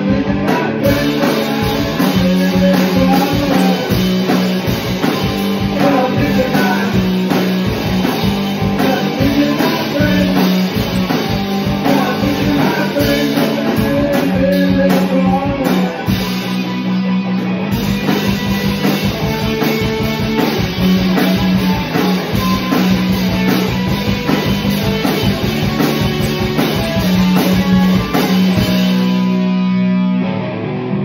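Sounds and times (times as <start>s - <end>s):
drum kit and cymbals: 0.0s - 29.8s
bass guitar: 0.0s - 31.0s
electric guitar: 0.0s - 31.0s.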